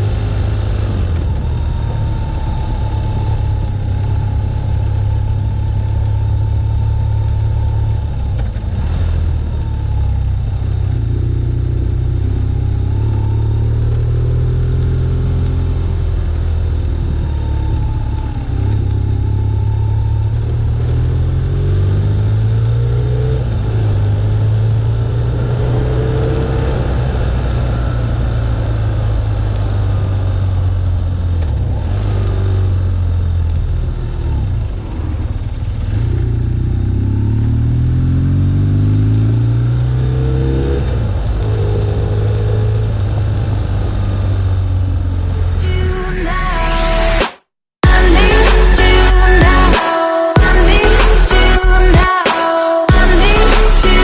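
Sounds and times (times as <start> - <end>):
motorcycle engine running: 0.0 - 46.2, 47.8 - 49.8, 50.4 - 52.2, 52.9 - 54.0
wind and road noise: 0.0 - 47.3.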